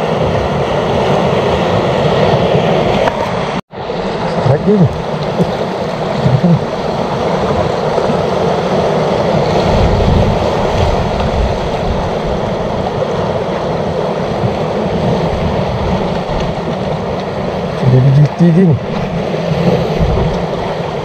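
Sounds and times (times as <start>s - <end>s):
sea waves washing against rocks: 0.0s - 21.0s.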